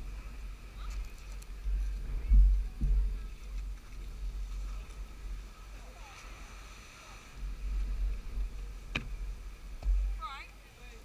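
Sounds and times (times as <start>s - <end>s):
faint distant voices: 0.0s - 11.0s
wind buffeting microphone: 0.0s - 11.0s.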